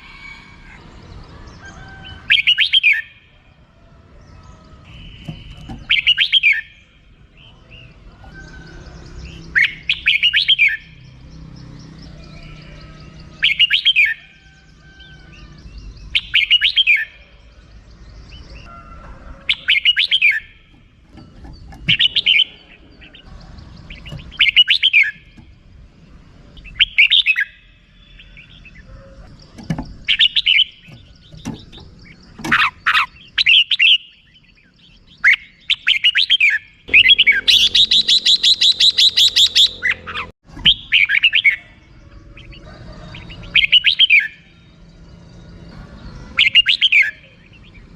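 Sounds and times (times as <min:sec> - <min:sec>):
bulbul chattering calls: 0:00.1 - 0:03.4, 0:04.2 - 0:25.6, 0:26.4 - 0:44.6, 0:46.0 - 0:47.9.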